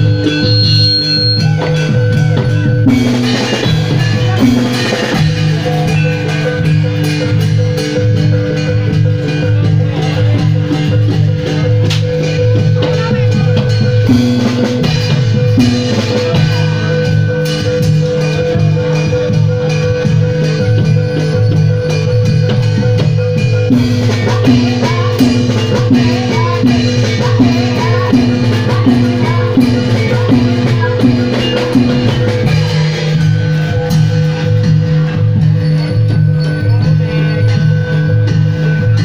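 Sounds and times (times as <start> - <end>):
bronze metallophones ringing: 0.0 - 39.0
steady drum rhythm: 0.0 - 39.0.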